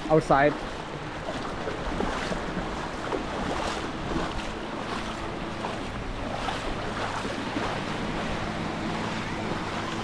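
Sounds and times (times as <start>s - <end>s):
low motor hum: 0.0s - 10.0s
surf washing on beach: 0.0s - 10.0s
wind on microphone: 0.0s - 10.0s.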